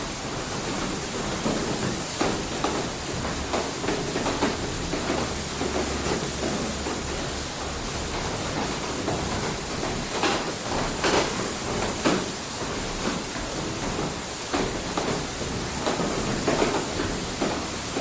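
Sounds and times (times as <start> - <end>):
falling water rushing: 0.0 - 18.0
mill knocking and clunking: 0.0 - 18.0.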